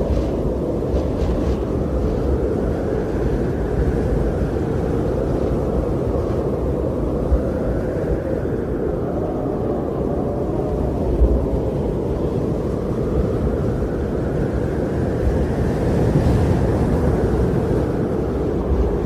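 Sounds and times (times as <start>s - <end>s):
wind blowing in a snowstorm: 0.0s - 19.0s.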